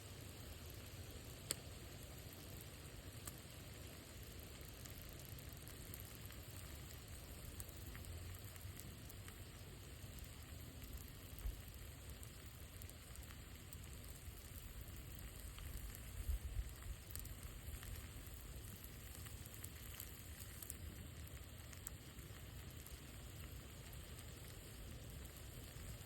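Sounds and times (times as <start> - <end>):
campfire crackling and hissing: 0.0 - 26.0.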